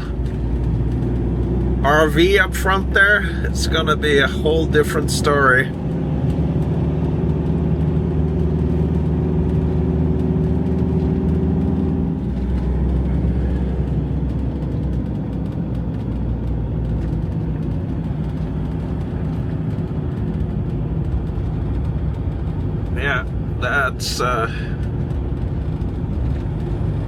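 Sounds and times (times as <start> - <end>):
road noise: 0.0 - 27.0
van engine hum: 0.0 - 27.0.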